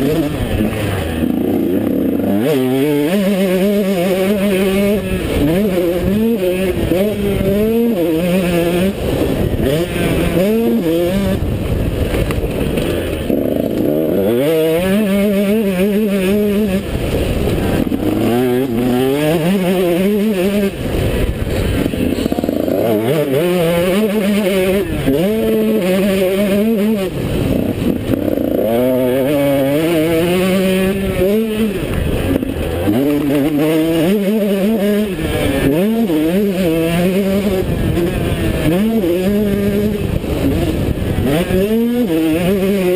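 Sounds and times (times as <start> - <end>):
two-stroke motorbike engine revving: 0.0 - 42.9.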